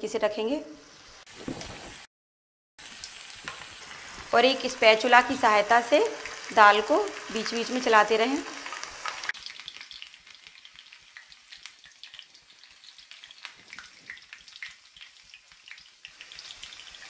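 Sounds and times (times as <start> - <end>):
lentils deep-frying in oil: 2.8 - 17.0.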